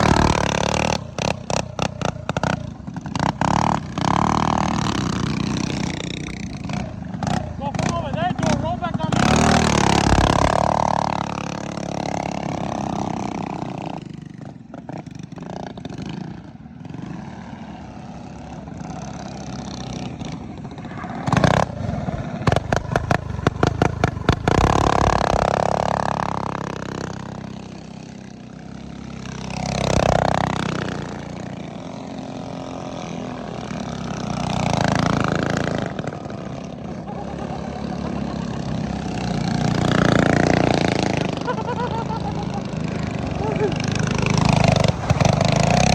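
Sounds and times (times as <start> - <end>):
minibike engines revving: 0.0 - 45.9.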